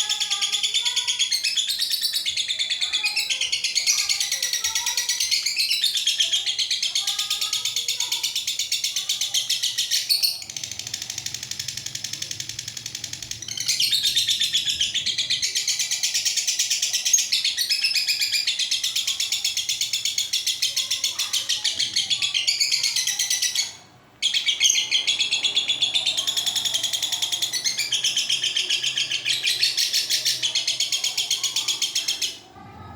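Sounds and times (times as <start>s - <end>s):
lovebird shrill chattering chirps: 0.0s - 32.4s.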